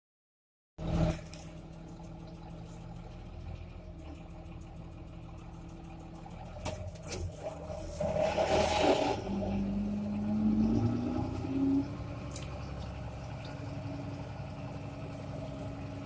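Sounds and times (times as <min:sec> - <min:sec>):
vehicle engine idling: 0:00.8 - 0:16.0.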